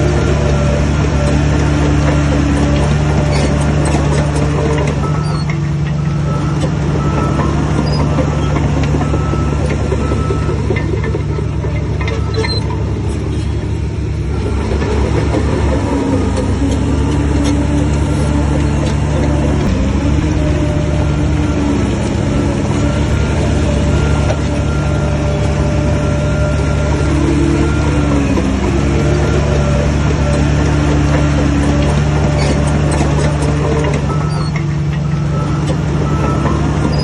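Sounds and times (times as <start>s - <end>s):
heavy machinery diesel engine: 0.0s - 37.0s.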